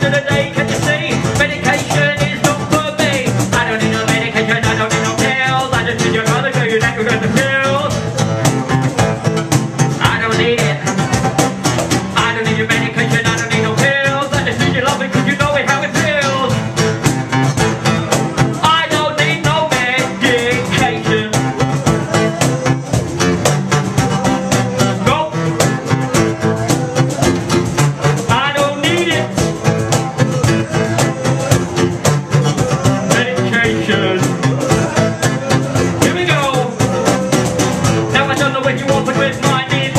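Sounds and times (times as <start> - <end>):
person rapping through microphone: 0.0 - 8.8, 9.9 - 11.3, 12.1 - 39.9
steady beat: 0.0 - 39.9
strummed guitar: 0.0 - 39.9.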